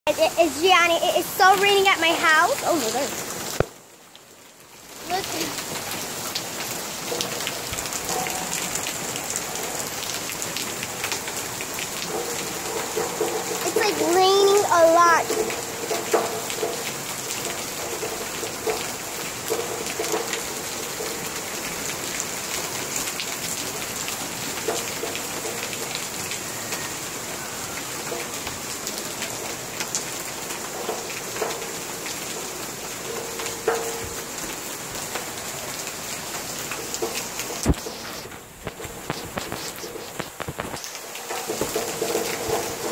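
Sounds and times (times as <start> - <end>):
heavy rain falling: 0.1 - 42.9
water drips landing close: 5.0 - 26.9, 28.0 - 42.9.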